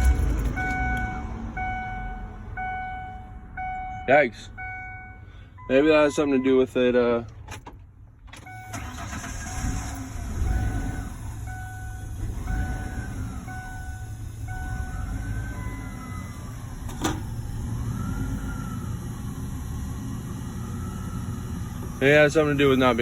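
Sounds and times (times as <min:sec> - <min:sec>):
car engine idling unevenly: 0:00.0 - 0:17.8, 0:18.6 - 0:23.0
faint engine whine: 0:00.0 - 0:23.0.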